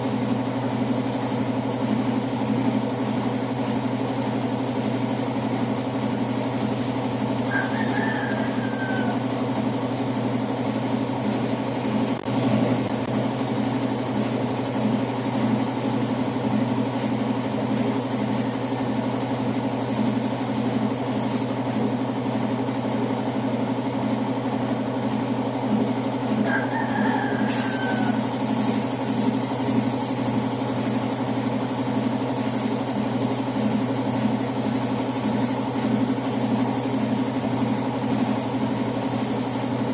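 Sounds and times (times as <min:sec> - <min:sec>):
spray gun air hiss: 0:00.0 - 0:07.8, 0:08.5 - 0:21.5, 0:27.5 - 0:39.9
air compressor running: 0:00.0 - 0:39.9.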